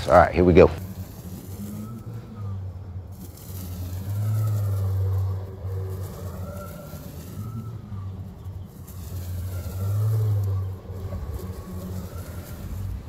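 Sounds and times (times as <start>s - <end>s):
lawn mower humming: 0.0s - 13.0s
pickup truck driving past: 0.8s - 13.0s.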